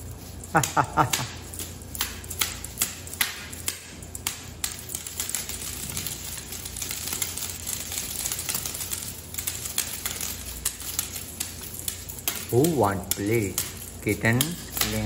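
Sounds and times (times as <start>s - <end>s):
tinsel toy tapping on tile floor: 0.4s - 15.0s.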